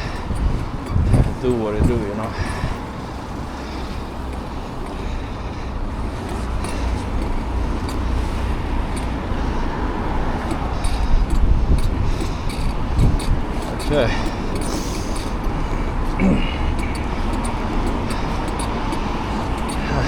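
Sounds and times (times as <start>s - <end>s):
road noise: 0.0s - 20.0s
wind rumble on microphone: 0.0s - 20.0s.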